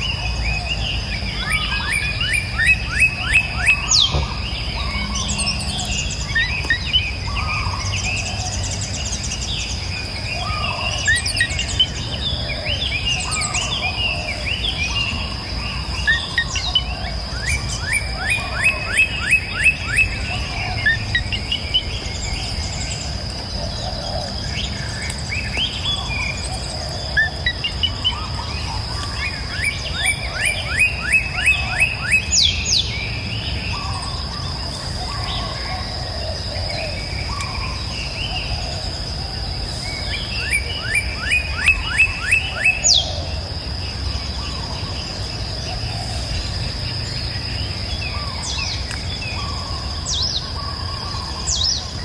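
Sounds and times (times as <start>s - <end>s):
songbirds chirping and singing: 0.0s - 52.0s.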